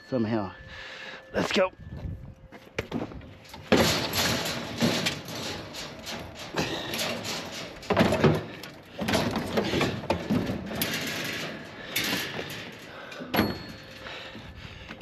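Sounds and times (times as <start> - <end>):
bicycle clanking against metal scrap: 2.8 - 15.0.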